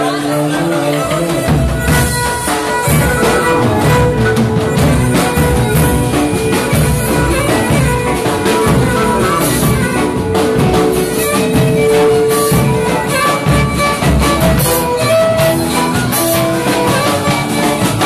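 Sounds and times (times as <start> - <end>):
keyboard: 0.0 - 18.0
lyra melody: 0.0 - 18.0
drum strikes: 0.5 - 18.0.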